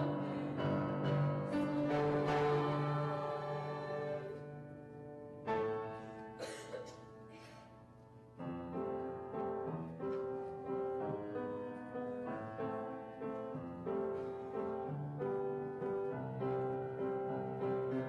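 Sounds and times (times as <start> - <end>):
piano playing notes and chords: 0.0 - 18.0.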